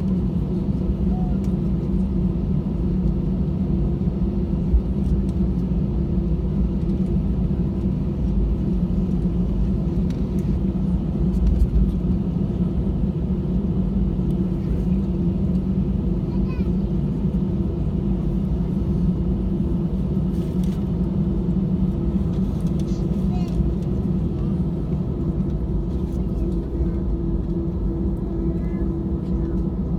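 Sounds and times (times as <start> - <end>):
airplane cabin engine rumble: 0.0 - 29.9.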